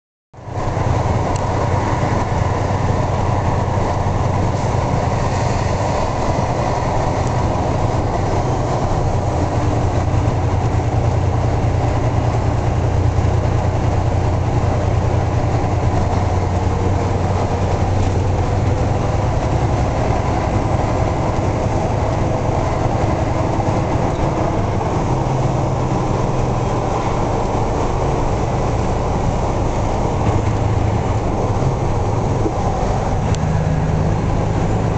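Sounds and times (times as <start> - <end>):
road rumble and tyre hiss: 0.4 - 34.9
truck diesel engine drone: 0.4 - 34.9.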